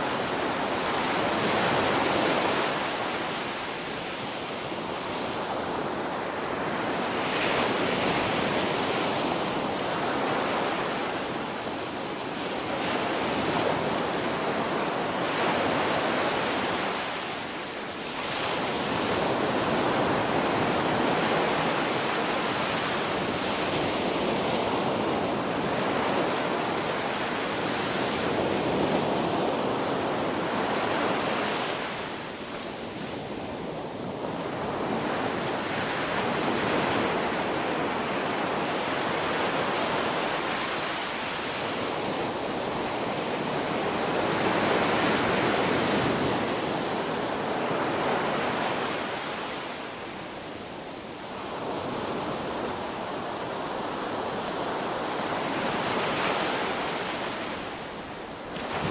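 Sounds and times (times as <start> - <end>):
ocean waves breaking on a beach: 0.0 - 58.9.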